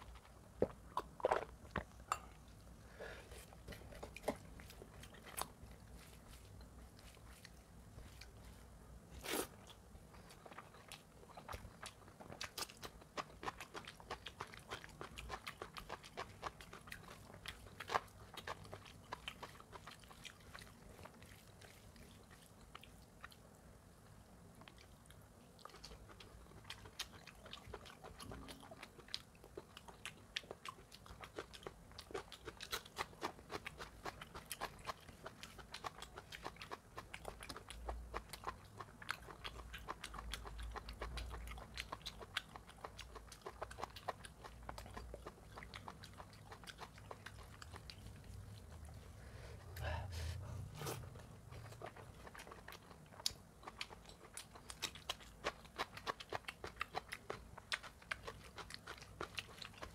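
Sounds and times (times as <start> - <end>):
wet chewing and lip-smacking: 0.0 - 49.8, 50.6 - 59.9.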